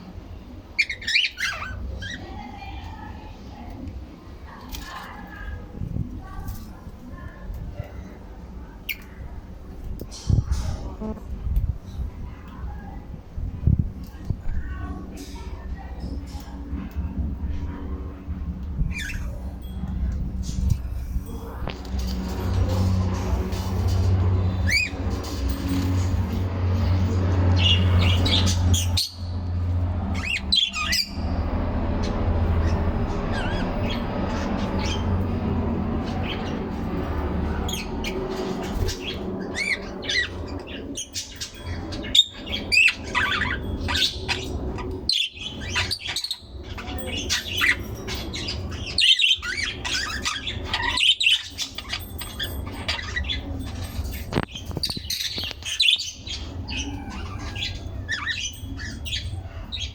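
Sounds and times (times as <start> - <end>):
birds chirping and squawking: 0.0 - 12.1, 14.0 - 59.9
steady low hum: 1.8 - 50.8.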